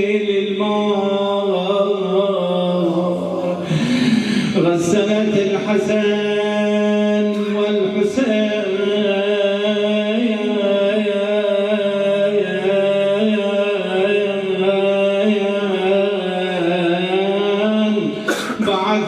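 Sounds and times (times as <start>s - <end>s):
man chanting unaccompanied: 0.0s - 19.0s.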